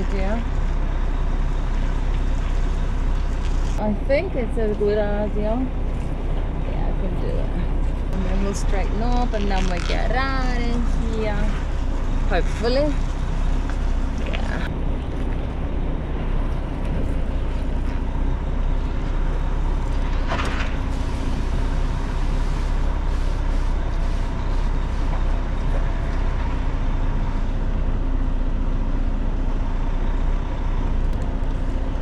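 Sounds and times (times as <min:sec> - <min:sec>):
diesel lorry engine running: 0:00.0 - 0:32.0.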